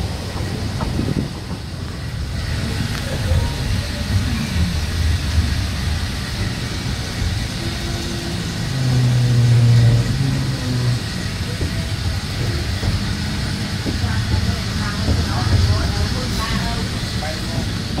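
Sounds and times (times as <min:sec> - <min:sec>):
deep engine drone: 0:00.0 - 0:18.0
train rumbling: 0:00.0 - 0:18.0.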